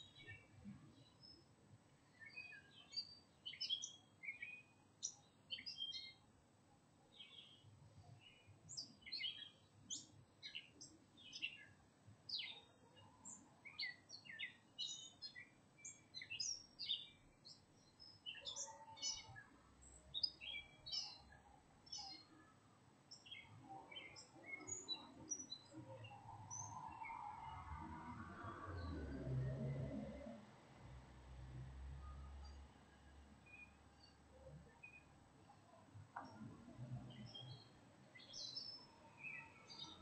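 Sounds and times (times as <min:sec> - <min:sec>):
songbirds chirping and singing: 0:00.0 - 0:06.3, 0:07.1 - 0:30.6, 0:33.4 - 0:40.0.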